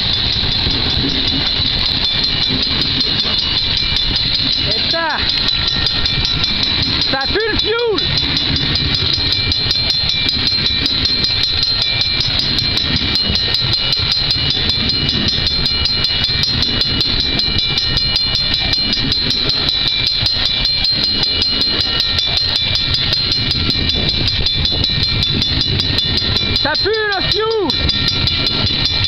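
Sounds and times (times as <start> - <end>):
freight cars rumbling on rails: 0.0 - 29.0
level crossing bell ringing: 0.0 - 29.0.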